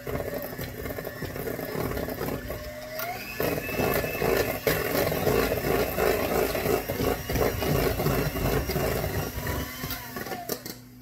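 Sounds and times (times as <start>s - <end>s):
electric mixer beating batter: 0.0s - 10.8s.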